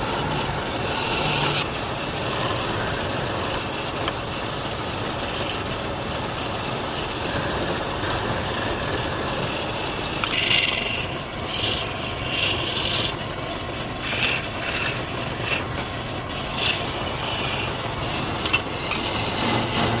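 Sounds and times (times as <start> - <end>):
tool rasping against spinning wood: 0.0 - 4.2, 4.8 - 20.0
wood lathe running: 0.0 - 20.0.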